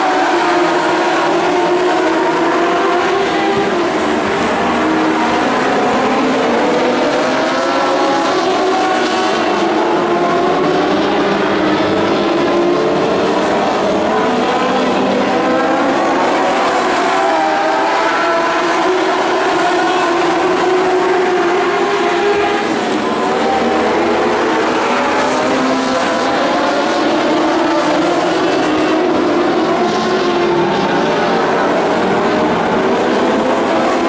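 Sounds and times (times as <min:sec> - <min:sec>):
race car engines revving: 0:00.0 - 0:34.0.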